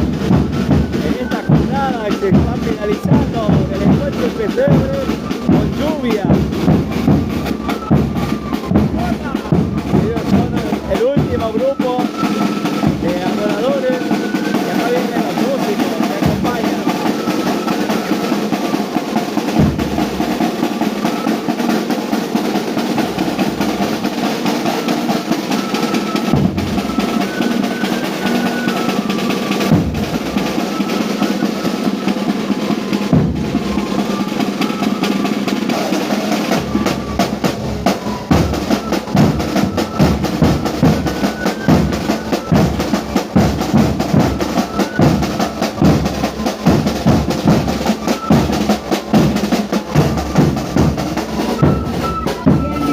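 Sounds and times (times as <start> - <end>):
drums beating: 0.0 - 52.9
live band playing: 0.0 - 52.9.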